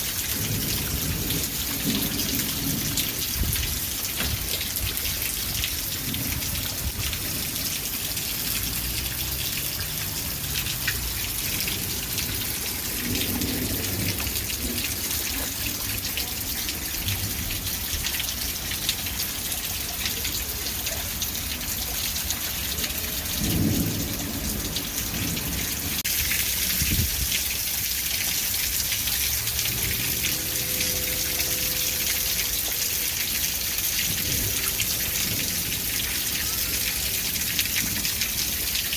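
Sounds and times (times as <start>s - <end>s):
rain drops striking a surface: 0.0s - 38.9s.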